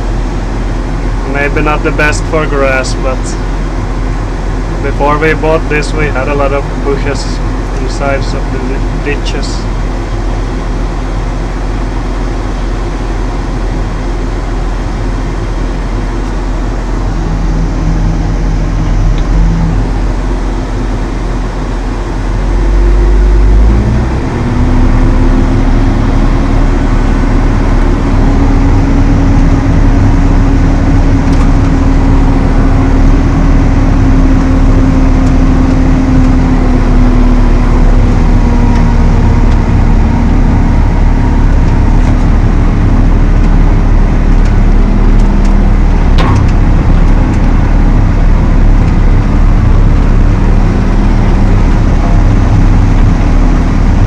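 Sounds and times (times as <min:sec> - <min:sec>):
flail mower hum rising: 0:00.0 - 0:54.0
tractor diesel engine running: 0:00.0 - 0:54.0.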